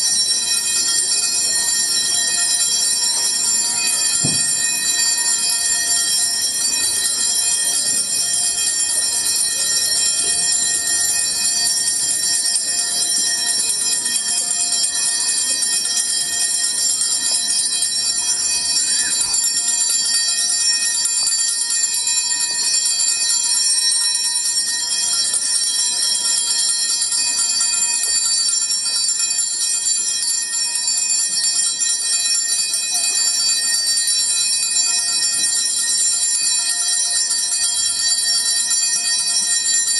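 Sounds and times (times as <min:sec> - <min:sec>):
small hand bells ringing: 0:00.0 - 0:39.9.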